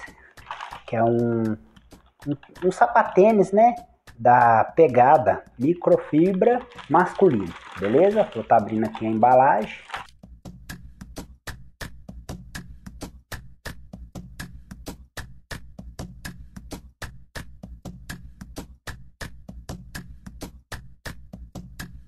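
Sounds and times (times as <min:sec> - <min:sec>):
background music with steady beat: 0:00.0 - 0:22.0.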